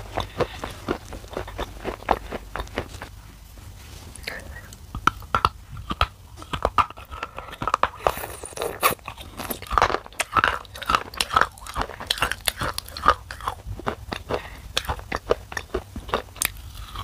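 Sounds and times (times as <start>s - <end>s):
clay crunching between teeth: 0.0s - 3.1s, 5.0s - 17.0s.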